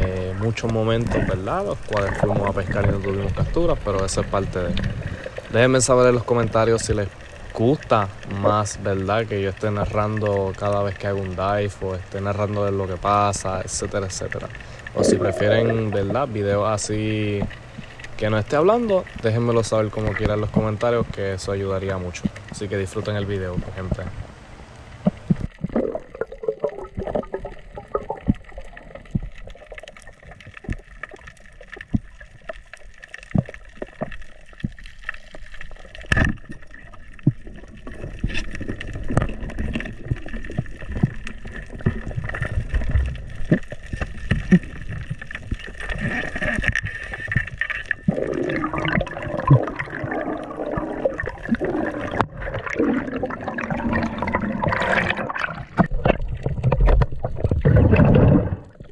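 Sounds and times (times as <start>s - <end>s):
bubbling and gurgling: 0.0s - 58.9s
faint steady hum: 0.0s - 58.9s
underwater water movement: 0.0s - 58.9s.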